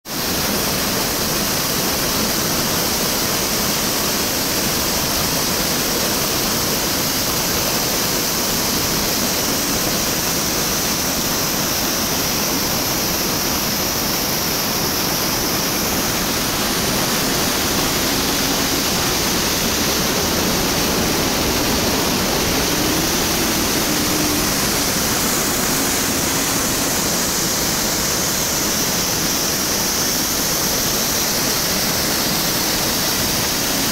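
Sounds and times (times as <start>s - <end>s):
whitewater rushing over boulders: 0.1s - 33.9s.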